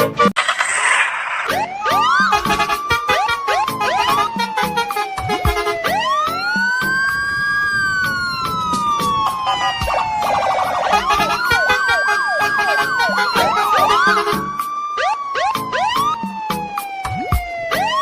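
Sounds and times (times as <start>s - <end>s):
siren-like wail: 0.8s - 18.0s
music with steady beat: 1.6s - 7.2s, 8.0s - 14.8s, 15.5s - 18.0s.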